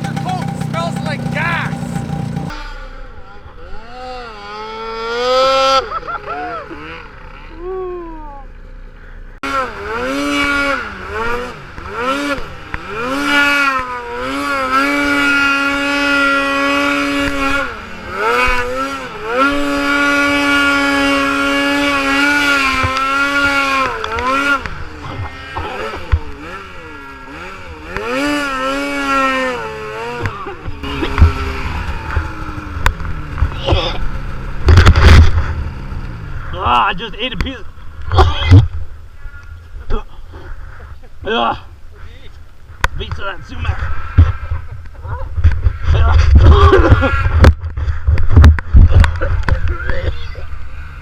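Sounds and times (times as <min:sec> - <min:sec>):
snowmobile engine revving: 0:00.0 - 0:08.4, 0:09.4 - 0:37.5, 0:43.0 - 0:51.0.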